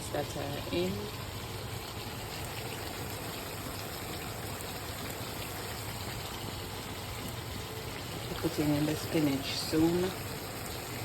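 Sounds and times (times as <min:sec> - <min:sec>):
pot boiling: 0:00.0 - 0:11.0.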